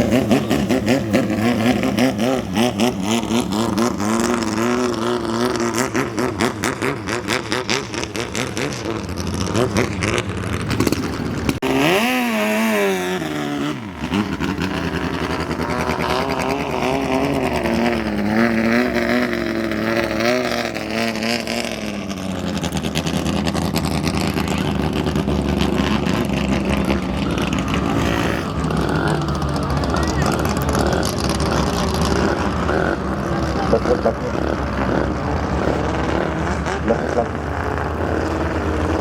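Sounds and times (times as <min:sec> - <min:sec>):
speedboat engine running hard: 0:00.0 - 0:39.0.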